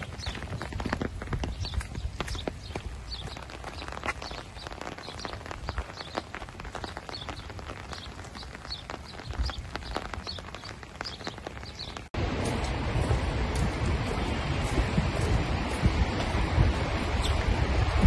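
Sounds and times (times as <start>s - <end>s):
large raindrops tapping: 0.0s - 18.0s
steady rain hiss: 0.0s - 18.0s.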